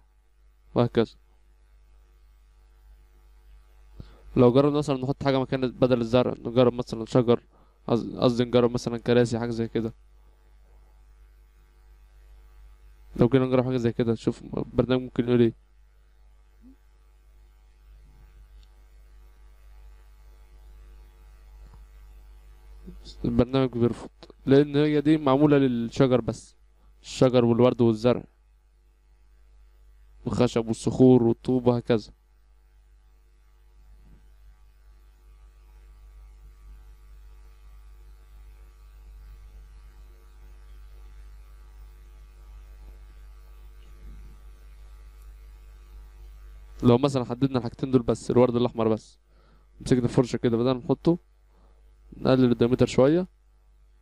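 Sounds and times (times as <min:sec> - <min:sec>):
faint electrical hum: 0:00.0 - 0:54.0
faint high buzz: 0:00.0 - 0:54.0.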